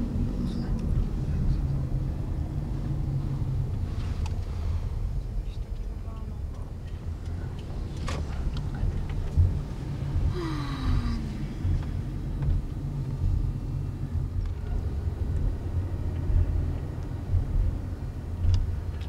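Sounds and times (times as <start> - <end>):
car driving rumble from inside: 0.0 - 19.0.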